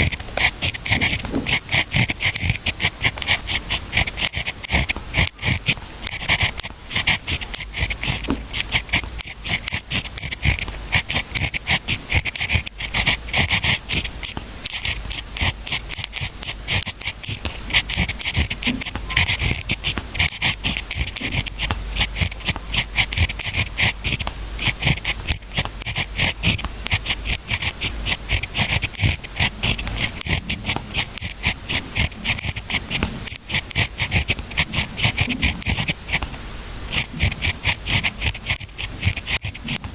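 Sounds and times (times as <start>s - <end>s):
pen scratching on paper: 0.0s - 39.9s.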